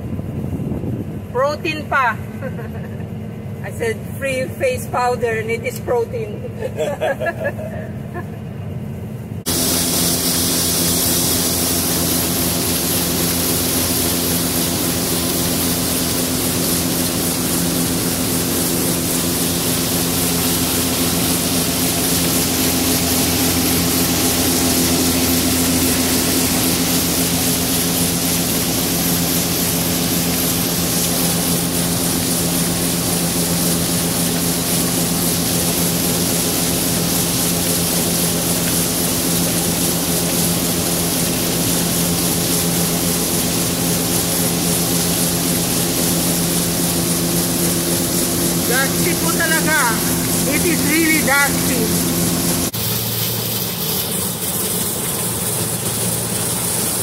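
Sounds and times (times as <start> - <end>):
combine harvester droning: 0.0 - 57.0
auger pouring grain: 9.5 - 57.0.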